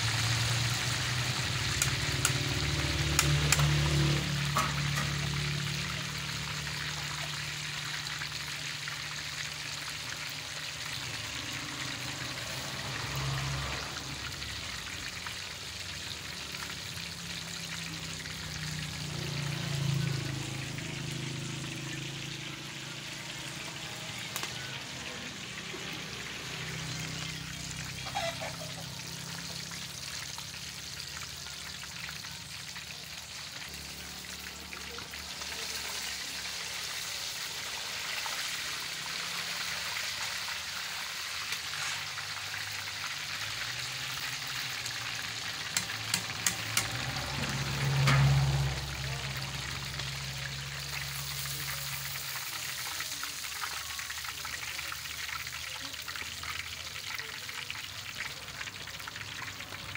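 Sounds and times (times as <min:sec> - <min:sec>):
fish deep-frying in oil: 0:00.0 - 0:59.9.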